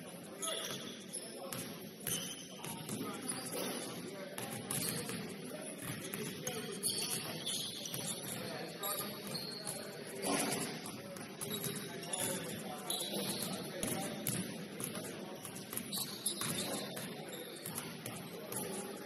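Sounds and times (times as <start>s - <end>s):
sneakers squeaking: 0.4s - 19.0s.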